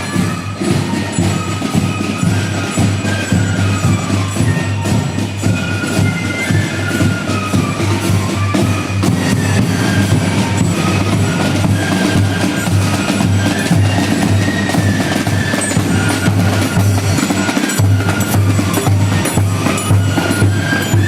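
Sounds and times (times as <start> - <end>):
fife melody: 0.0 - 21.0
snare and bass drums: 0.0 - 21.0.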